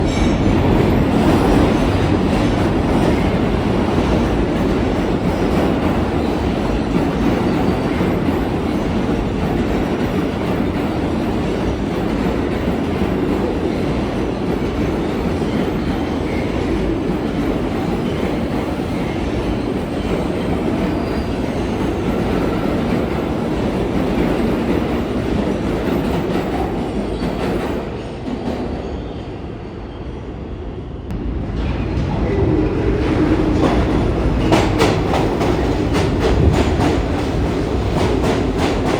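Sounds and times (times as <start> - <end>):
subway train wheels on rails: 0.0 - 38.9.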